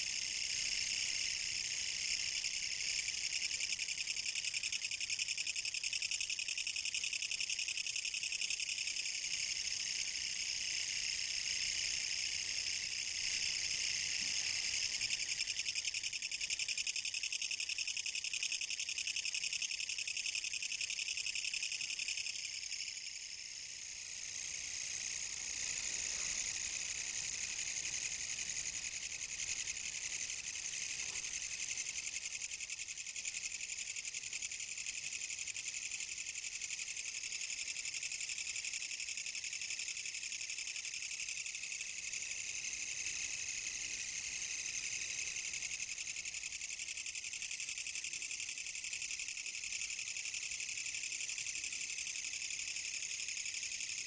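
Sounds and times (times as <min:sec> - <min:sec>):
katydid rattling buzz: 0:00.0 - 0:54.0.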